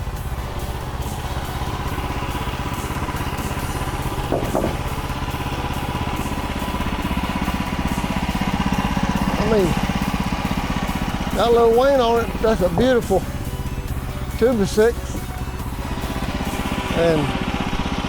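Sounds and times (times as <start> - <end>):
sawmill engine running: 0.0 - 18.0.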